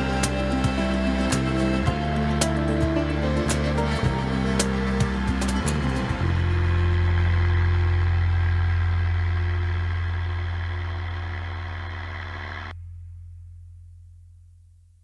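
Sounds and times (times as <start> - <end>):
engine hiss: 0.0 - 12.7
two-stroke engine drone: 0.0 - 12.8.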